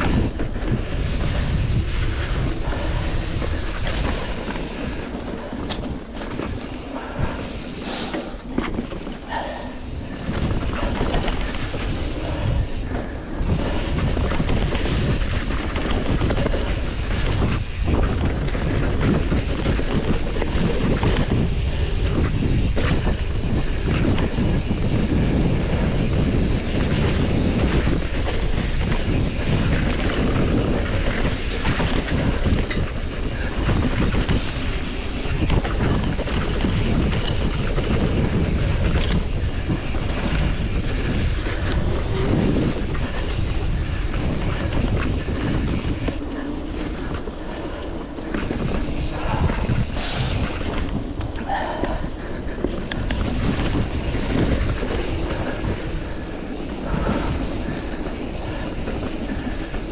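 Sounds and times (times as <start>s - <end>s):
bike rattling over bumps: 0.0s - 59.9s
bike tyres rumbling on dirt: 0.0s - 59.9s
wind on microphone: 0.0s - 59.9s.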